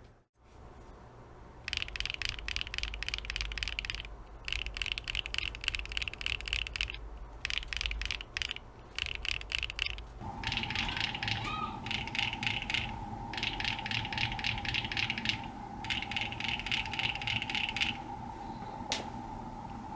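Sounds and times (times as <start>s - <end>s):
steady hum: 0.8s - 19.9s
mechanical keyboard key clacks: 1.7s - 18.0s.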